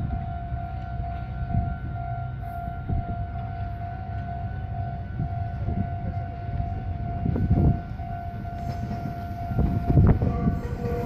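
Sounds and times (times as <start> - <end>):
electric train rumbling: 0.0 - 11.0
level-crossing warning bell: 0.0 - 11.0.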